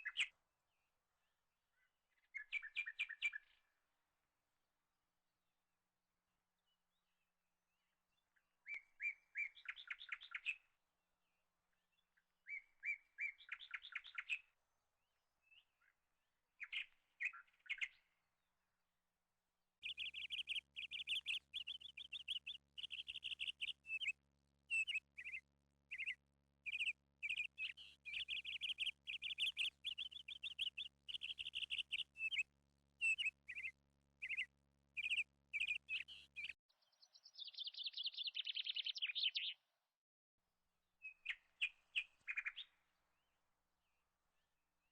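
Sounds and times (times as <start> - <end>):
songbirds singing: 0.0 - 3.8, 6.6 - 18.8, 19.8 - 39.8, 41.0 - 44.9.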